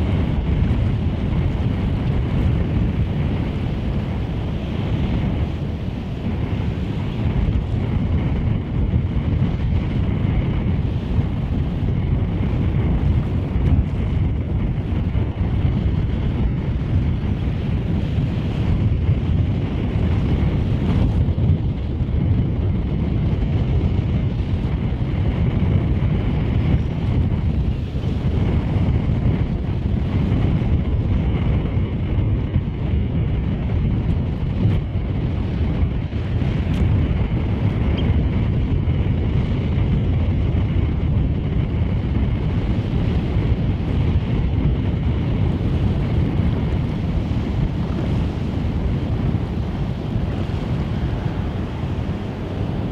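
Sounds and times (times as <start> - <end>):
choppy water washing: 0.0 - 52.9
wind buffeting microphone: 0.0 - 52.9.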